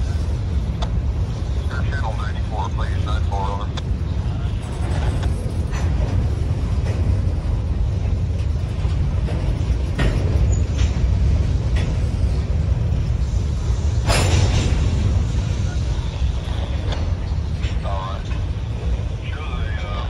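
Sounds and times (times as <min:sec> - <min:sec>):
steel wheels rumbling on rail: 0:00.0 - 0:20.0
train cars clanking: 0:00.0 - 0:20.0.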